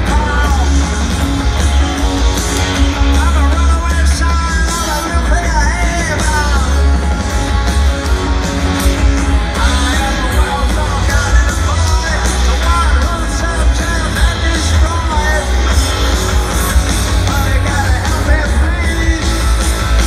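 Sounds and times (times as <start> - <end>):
man singing: 0.0 - 1.3, 2.9 - 7.2, 9.4 - 20.0
crowd: 0.0 - 20.0
punk rock band playing: 0.0 - 20.0.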